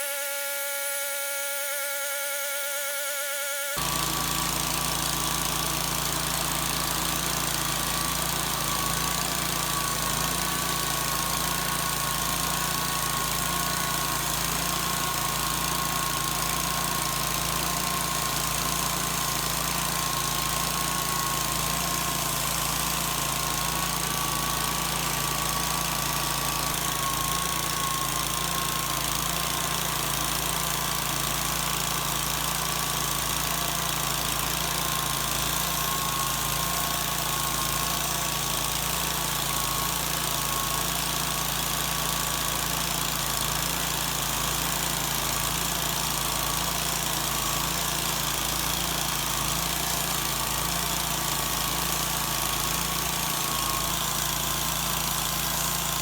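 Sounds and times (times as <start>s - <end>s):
engine running: 3.6s - 56.0s.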